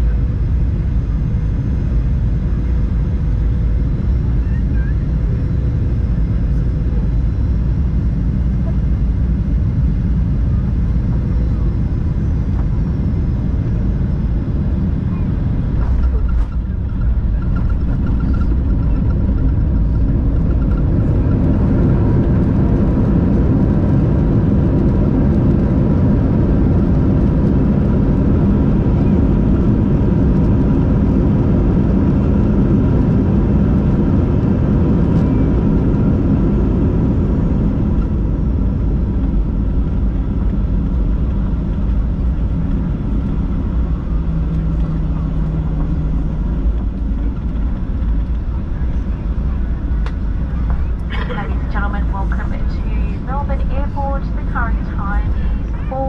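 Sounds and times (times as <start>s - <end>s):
engine and airflow rumble: 0.0s - 56.0s
wheels rumbling on runway: 0.0s - 56.0s.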